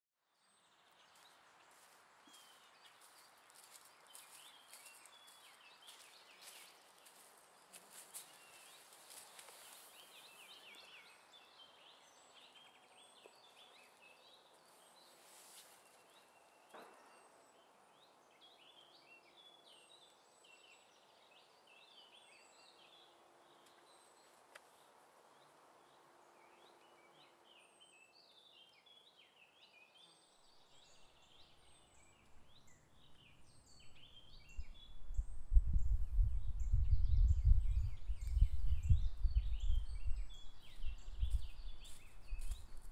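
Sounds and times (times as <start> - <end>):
quiet outdoor hiss: 0.2 - 42.9
small birds chirping: 0.3 - 42.9.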